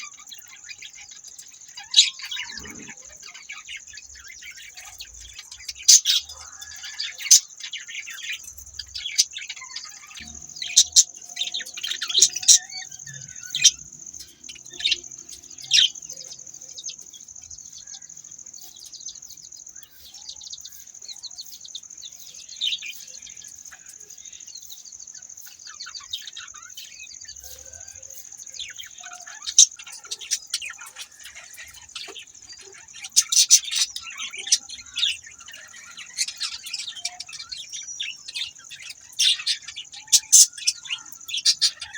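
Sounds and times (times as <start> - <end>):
budgerigars chirping: 0.0 - 17.1, 19.8 - 41.9.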